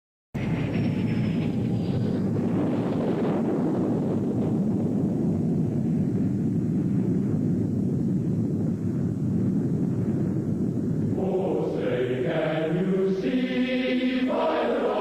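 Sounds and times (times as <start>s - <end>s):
low rumbling noise: 0.4s - 15.0s.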